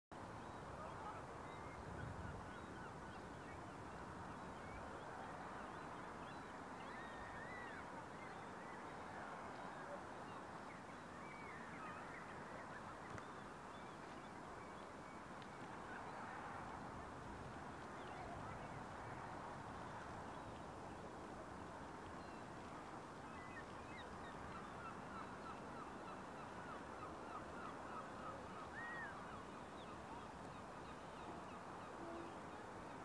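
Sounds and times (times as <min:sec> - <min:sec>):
steady background hiss: 0:00.2 - 0:33.0.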